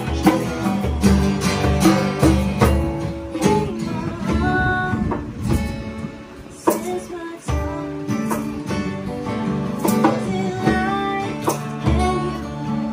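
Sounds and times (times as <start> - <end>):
acoustic guitars strummed: 0.0 - 12.9
hand drum beat: 0.0 - 12.9.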